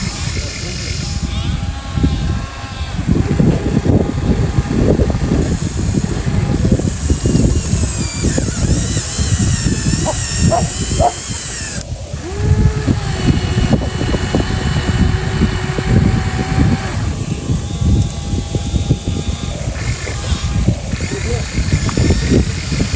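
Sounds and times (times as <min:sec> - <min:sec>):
small electric motors whining: 0:00.0 - 0:22.9.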